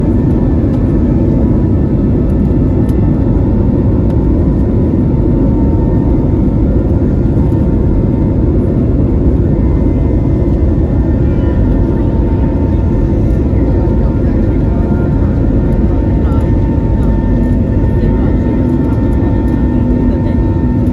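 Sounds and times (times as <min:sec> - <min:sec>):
airliner engines rumbling: 0:00.0 - 0:20.9
faint steady engine whine: 0:00.0 - 0:20.9.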